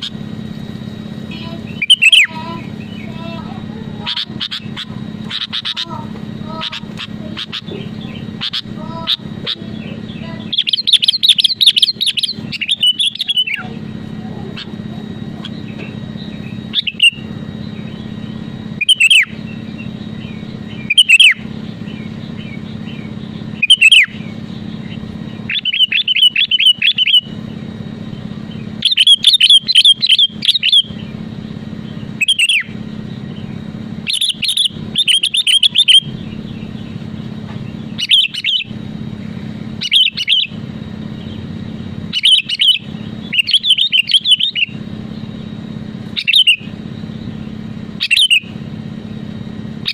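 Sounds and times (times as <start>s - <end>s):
bulbul calling: 0.0s - 49.9s
steady low hum: 0.0s - 49.9s.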